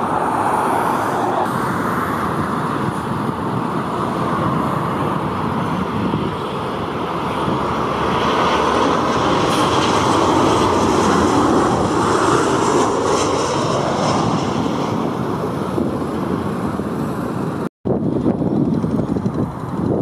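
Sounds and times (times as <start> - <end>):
jet engines rushing: 0.0 - 20.0
rumbling engine: 0.0 - 20.0.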